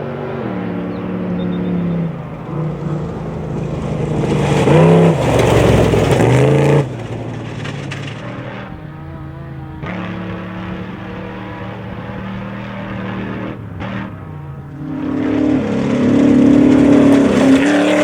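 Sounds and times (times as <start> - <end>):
race vehicle engine revving: 0.0 - 18.0.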